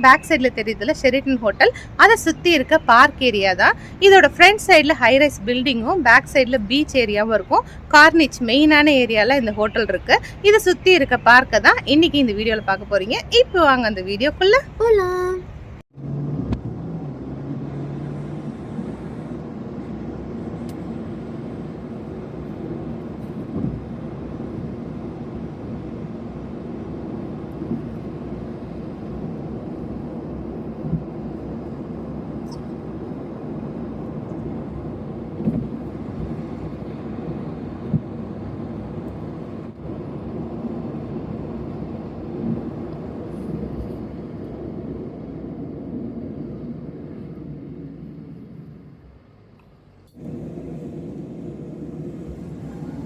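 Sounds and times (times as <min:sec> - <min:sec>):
low vehicle rumble: 0:00.0 - 0:53.0.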